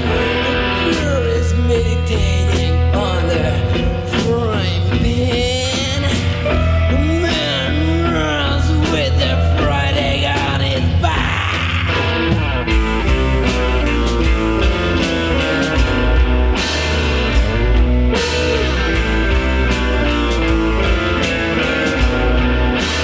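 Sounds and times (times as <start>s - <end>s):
punk rock song: 0.0s - 23.0s.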